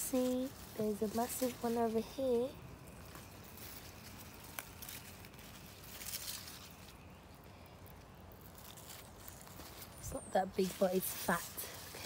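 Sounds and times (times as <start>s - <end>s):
rustling of leaves and soil: 0.0s - 12.0s.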